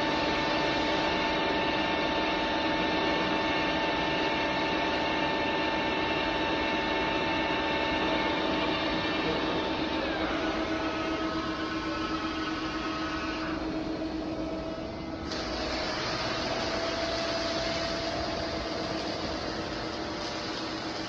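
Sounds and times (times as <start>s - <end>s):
machine whine: 0.0s - 21.0s.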